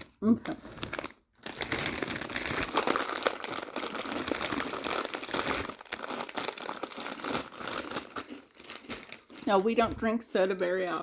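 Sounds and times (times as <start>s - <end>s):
snack bag crinkling: 0.0s - 10.0s.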